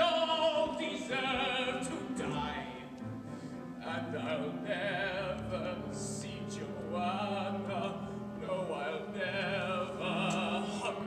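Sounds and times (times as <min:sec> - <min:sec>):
stage musical accompaniment: 0:00.0 - 0:11.0.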